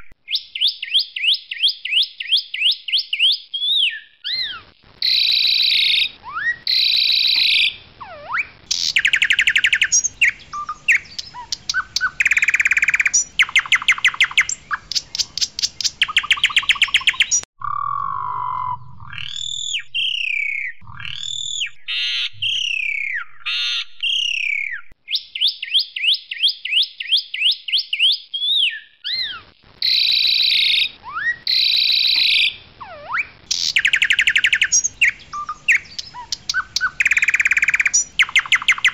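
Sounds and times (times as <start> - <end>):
starling singing: 2.6 - 25.0, 28.0 - 38.9.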